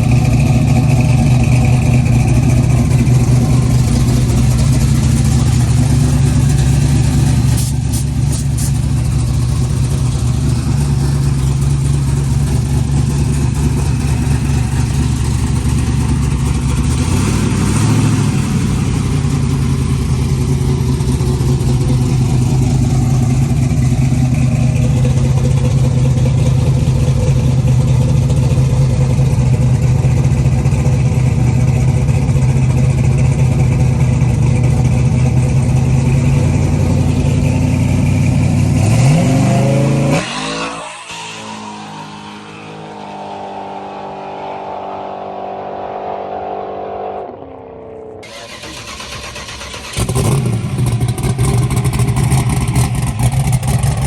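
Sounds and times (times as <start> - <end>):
car engine idling: 0.0 - 40.2, 47.3 - 54.0.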